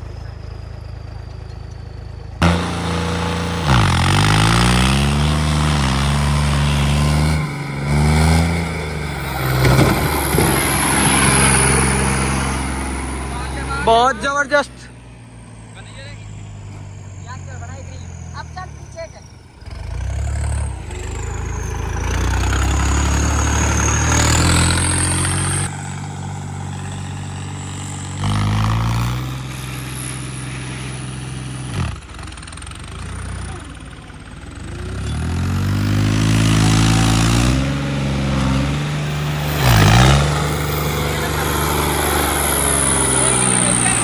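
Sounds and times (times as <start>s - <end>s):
diesel tractor engine under load: 0.0s - 44.0s.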